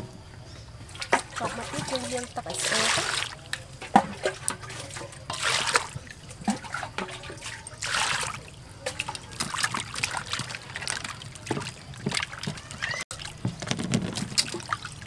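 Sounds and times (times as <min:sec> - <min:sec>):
hands sloshing vegetables in water: 0:00.9 - 0:15.0
water pouring into metal pot: 0:01.0 - 0:15.0.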